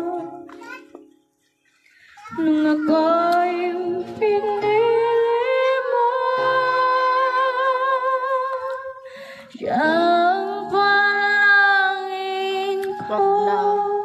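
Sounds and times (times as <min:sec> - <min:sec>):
woman singing with vibrato: 0:00.0 - 0:00.5, 0:02.3 - 0:14.0.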